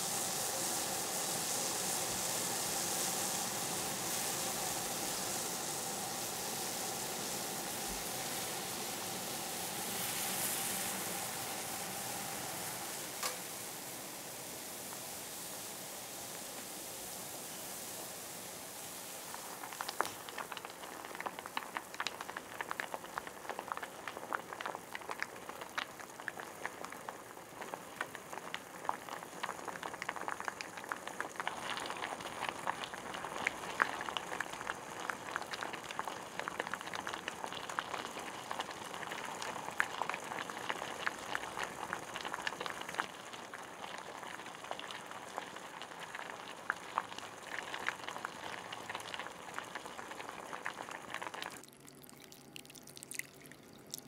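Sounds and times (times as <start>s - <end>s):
liquid boiling and bubbling: 0.0s - 54.0s.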